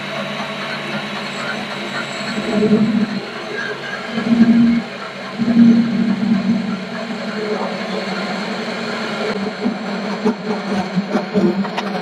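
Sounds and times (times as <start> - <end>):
metal lathe humming: 0.0 - 10.0.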